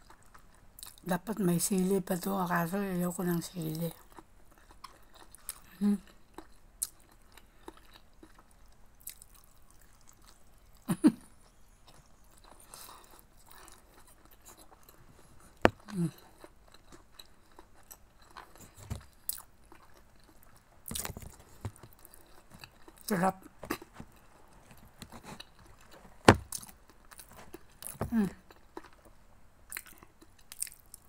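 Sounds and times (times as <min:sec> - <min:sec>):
close-up chewing: 0:00.0 - 0:01.1, 0:03.9 - 0:31.0.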